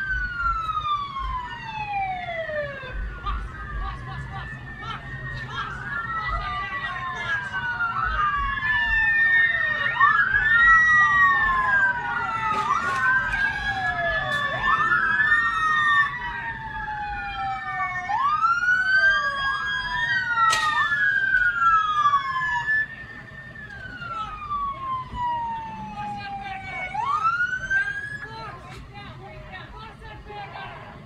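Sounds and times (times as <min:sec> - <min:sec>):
police sirens wailing: 0:00.0 - 0:31.0.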